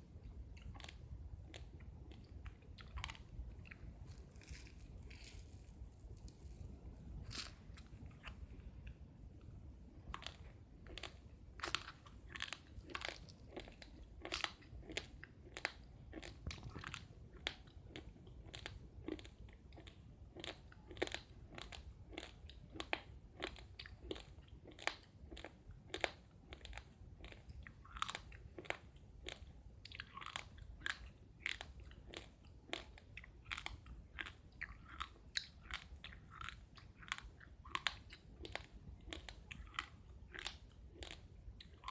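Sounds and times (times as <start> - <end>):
person chewing rice crunchily: 0.3 - 8.4, 10.1 - 41.9.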